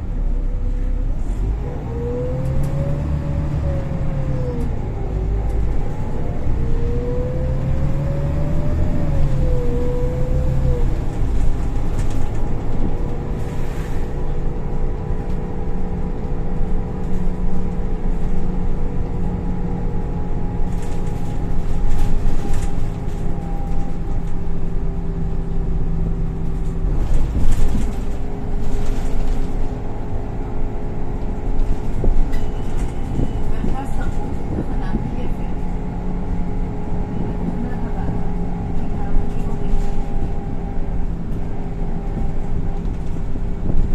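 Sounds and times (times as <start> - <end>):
bus engine drone and whine: 0.0 - 43.9.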